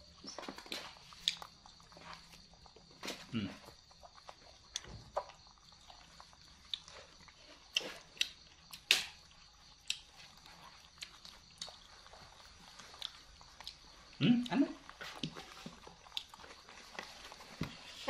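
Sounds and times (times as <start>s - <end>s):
monkeys chewing corn: 0.0s - 18.0s.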